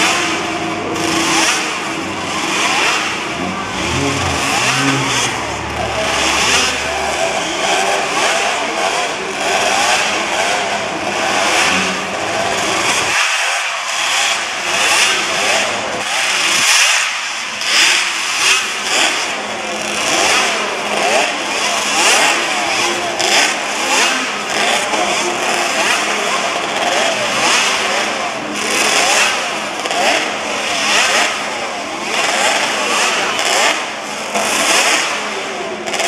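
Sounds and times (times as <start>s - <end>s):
racing motorcycle engines revving: 0.0s - 36.0s.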